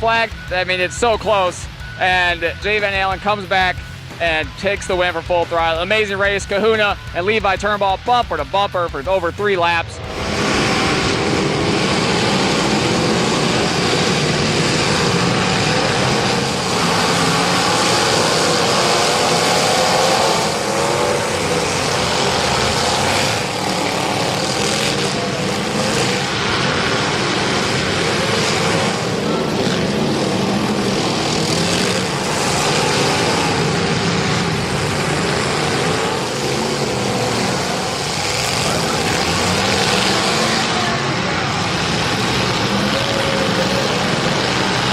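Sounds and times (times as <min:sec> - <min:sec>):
race car engines running: 0:00.0 - 0:44.9.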